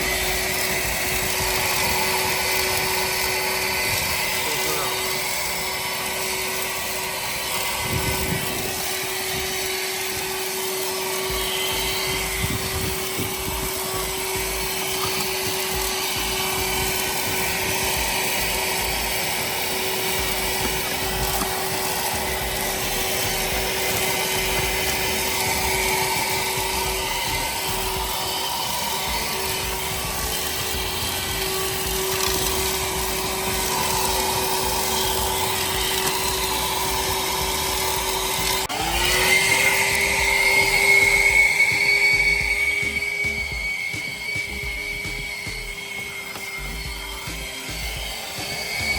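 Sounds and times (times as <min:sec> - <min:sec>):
handheld vacuum motor whine: 0:00.0 - 0:48.9.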